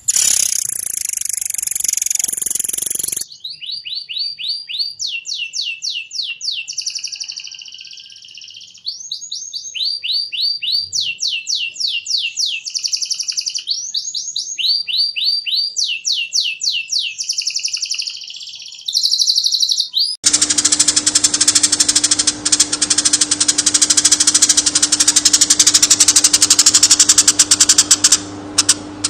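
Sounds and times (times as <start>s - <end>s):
songbird singing: 0.0s - 28.8s.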